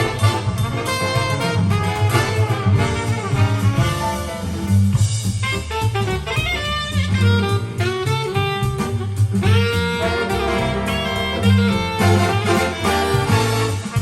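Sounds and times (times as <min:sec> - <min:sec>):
drum kit: 0:00.0 - 0:14.0
saxophones and brass: 0:00.0 - 0:14.0
walking bass: 0:00.0 - 0:14.0.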